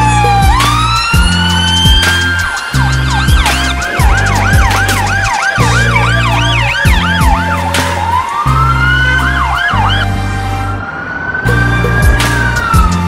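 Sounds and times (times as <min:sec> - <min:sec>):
background music with steady beat: 0:00.0 - 0:13.0
police siren: 0:00.0 - 0:13.0.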